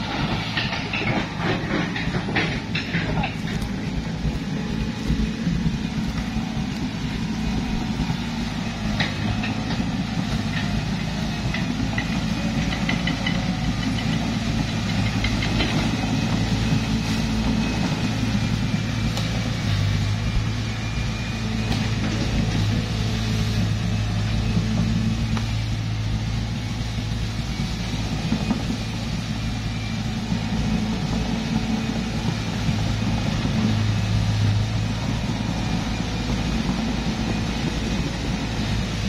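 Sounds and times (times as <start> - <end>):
diesel engines droning: 0.0 - 39.0.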